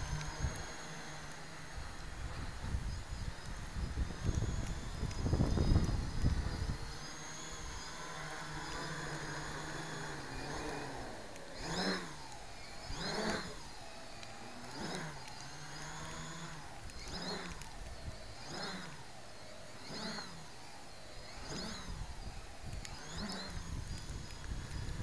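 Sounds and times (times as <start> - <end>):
quadcopter motors humming: 0.0 - 25.0.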